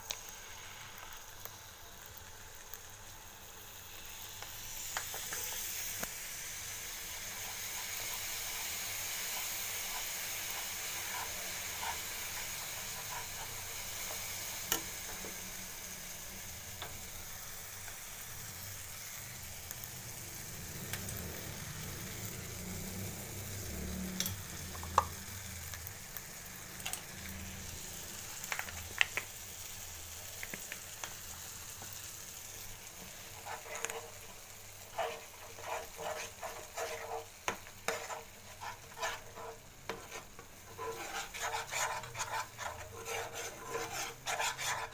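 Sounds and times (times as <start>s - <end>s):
sauce sizzling and bubbling: 0.0s - 44.9s.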